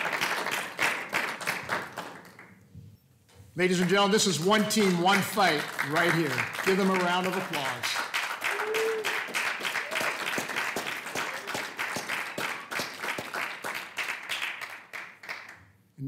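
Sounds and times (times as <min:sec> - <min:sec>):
audience applauding: 0:00.0 - 0:02.5, 0:03.7 - 0:15.6.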